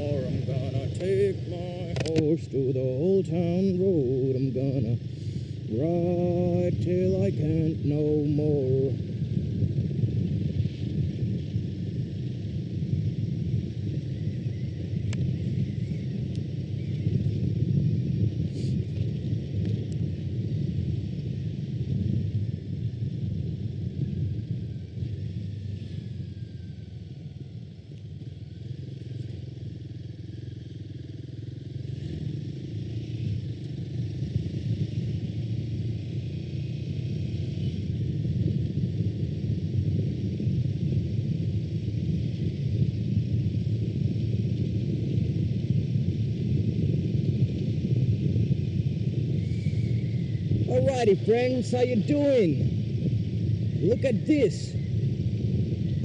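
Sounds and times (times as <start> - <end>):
motorcycle engine running: 0.0 - 56.0
wind rumbling over microphone: 0.0 - 56.0.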